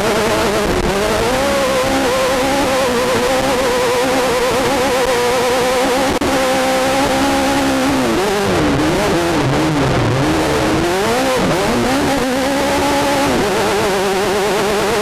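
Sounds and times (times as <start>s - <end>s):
race car engine at high revs: 0.0s - 15.0s
wind and road noise: 0.0s - 15.0s.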